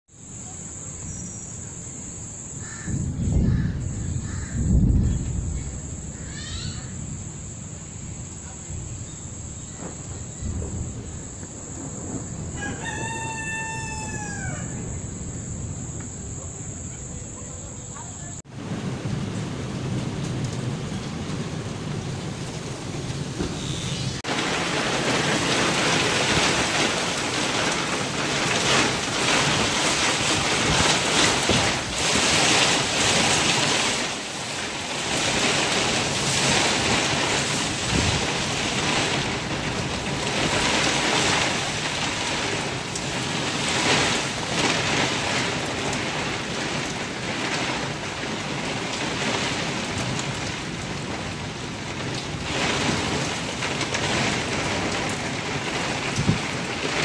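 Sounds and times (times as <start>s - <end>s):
heavy rain on roofs: 2.6s - 57.0s.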